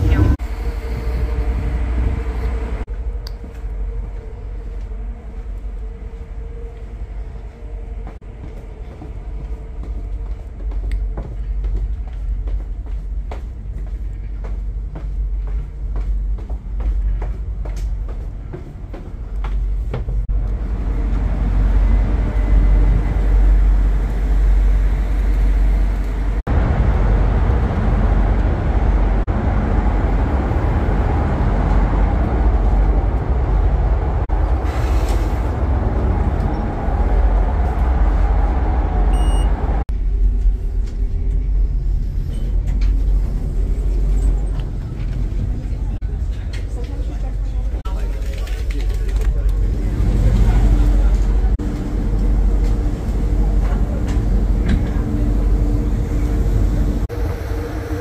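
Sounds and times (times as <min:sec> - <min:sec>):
ship engines rumbling: 0:00.0 - 0:58.0.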